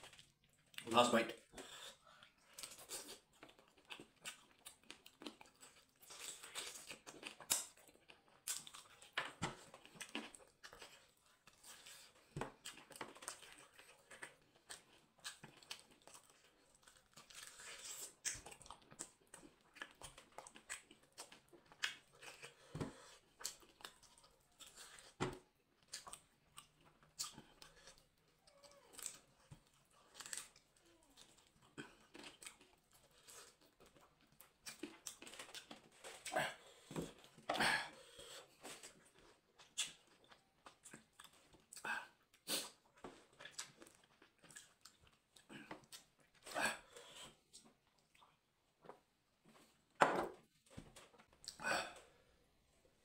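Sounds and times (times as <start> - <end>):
chewing and lip-smacking: 0.0 - 49.1.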